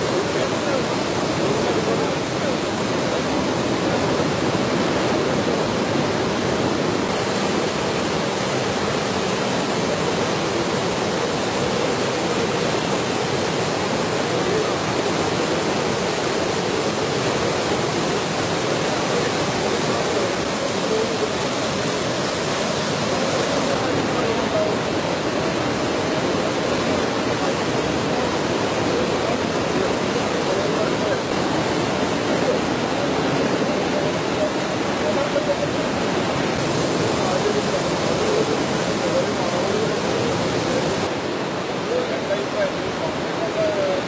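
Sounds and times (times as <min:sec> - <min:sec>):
river water rushing: 0:00.0 - 0:44.0.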